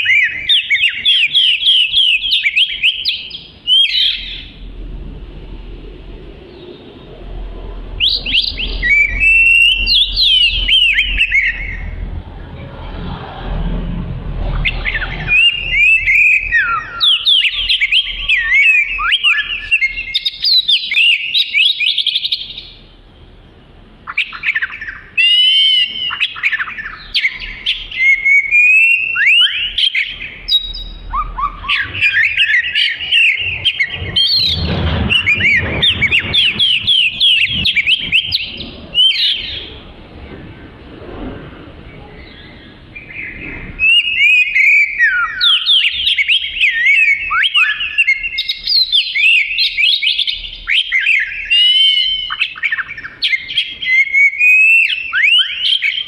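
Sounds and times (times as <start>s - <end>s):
bird singing whistles and trills: 0.0s - 4.7s, 7.9s - 12.1s, 14.5s - 23.2s, 24.0s - 39.8s, 41.9s - 56.0s.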